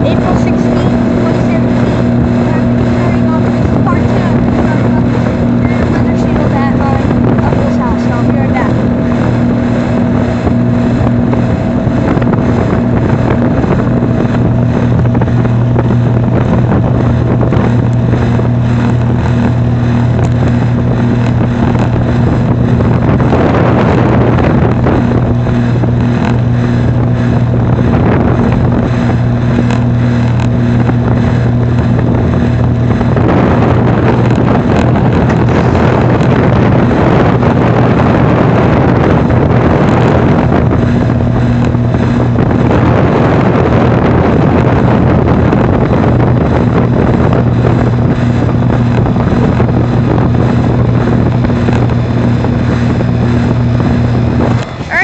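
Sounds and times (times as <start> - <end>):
compressor humming: 0.0 - 55.0
rushing air of condenser fan: 0.0 - 55.0.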